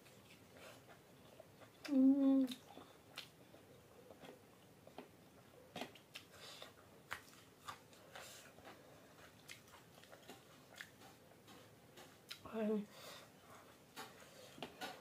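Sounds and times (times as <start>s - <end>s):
chewing and mouth clicks: 0.0s - 12.5s.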